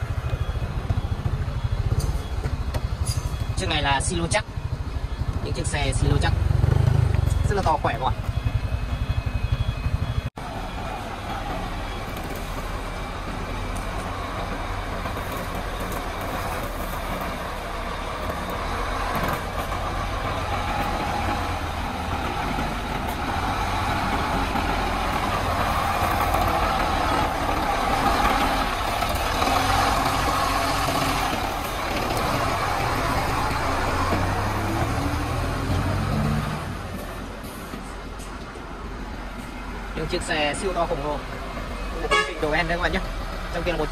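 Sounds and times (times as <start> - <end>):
diesel trucks driving past: 0.0 - 43.9.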